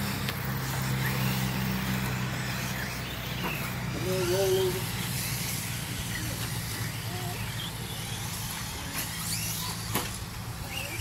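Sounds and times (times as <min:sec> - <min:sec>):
rc car motor whines: 0:00.0 - 0:11.0.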